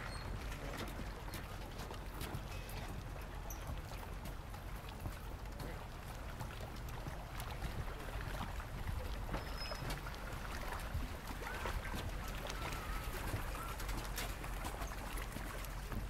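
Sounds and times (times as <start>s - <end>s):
footsteps on wooden boards: 0.1s - 16.0s.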